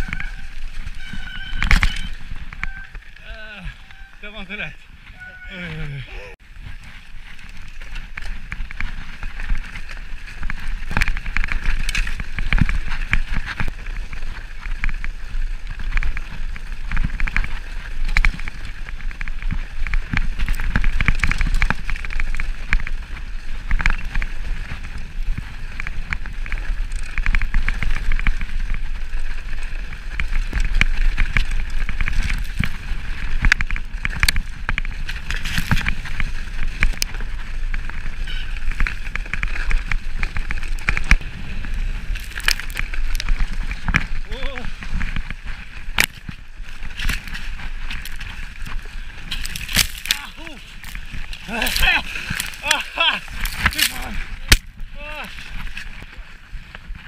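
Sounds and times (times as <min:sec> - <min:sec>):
bike rattling clicks and knocks: 0:00.0 - 0:04.3, 0:06.5 - 0:57.0
tyres rolling through snow: 0:00.0 - 0:57.0.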